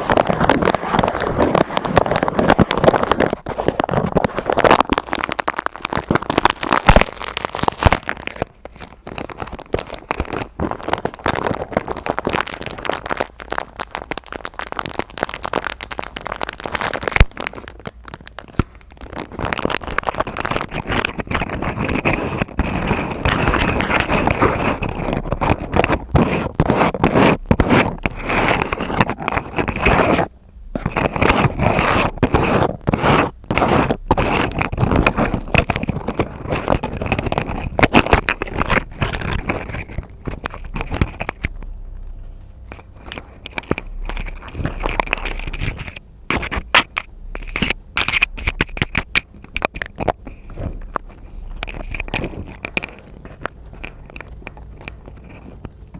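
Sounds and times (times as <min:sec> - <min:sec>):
scratching close to microphone: 0:00.0 - 0:55.9.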